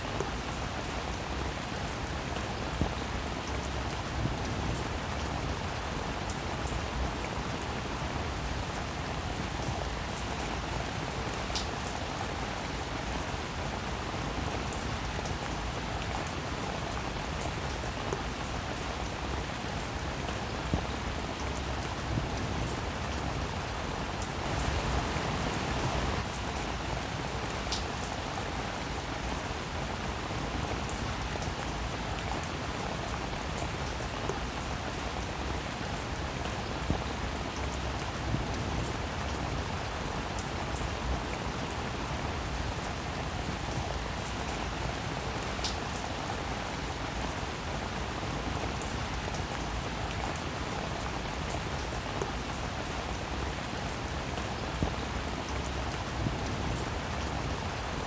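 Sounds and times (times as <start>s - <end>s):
steady rain with drop ticks: 0.0s - 58.0s.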